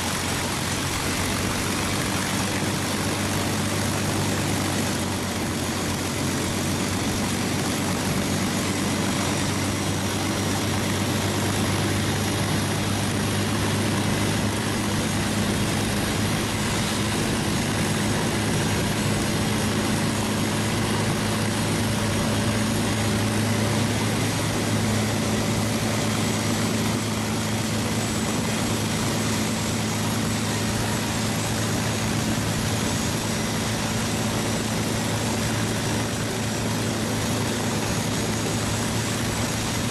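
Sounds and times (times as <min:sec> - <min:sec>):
propeller plane engine idling: 0:00.0 - 0:39.9.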